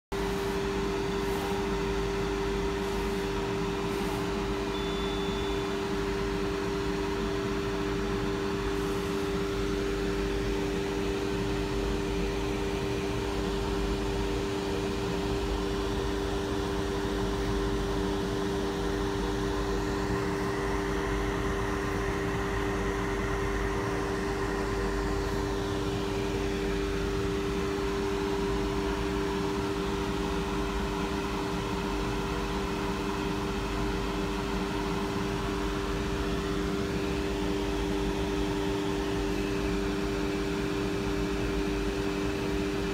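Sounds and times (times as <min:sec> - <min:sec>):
laser cutter humming: 0:00.1 - 0:42.9.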